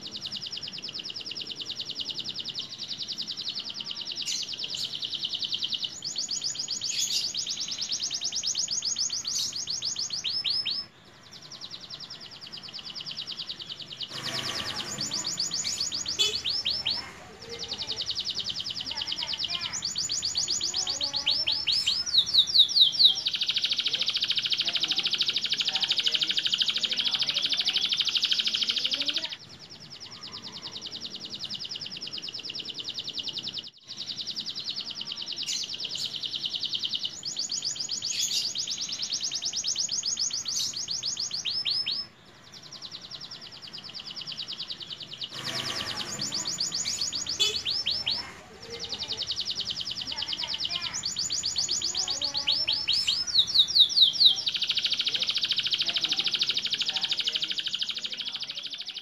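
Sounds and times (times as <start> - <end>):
canary singing trilled phrases: 0.0 - 59.0.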